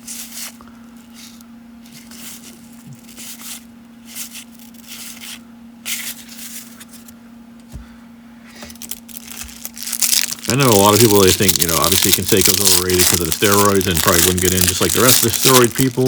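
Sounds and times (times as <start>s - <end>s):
cards rustling and sliding: 0.0s - 7.1s, 8.7s - 16.0s
low electrical hum: 0.0s - 16.0s.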